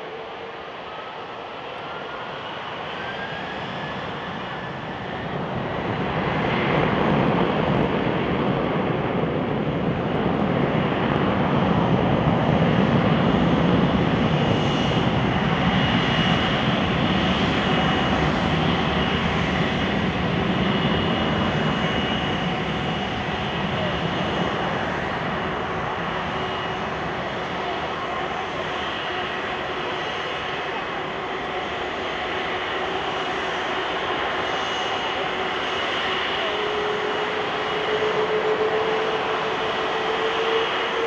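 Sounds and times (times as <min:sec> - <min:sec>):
jet engines whine and roar: 0:00.0 - 0:41.0.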